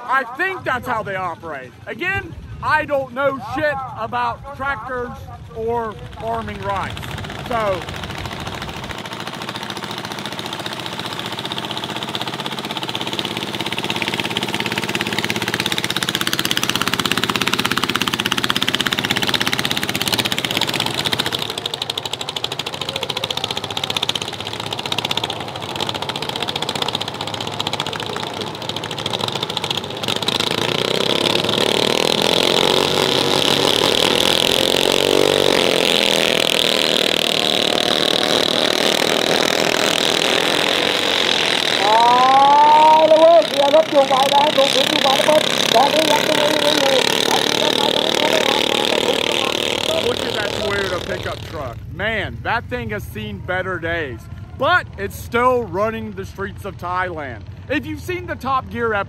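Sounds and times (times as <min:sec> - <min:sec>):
tractor engines revving: 0:00.0 - 0:59.0.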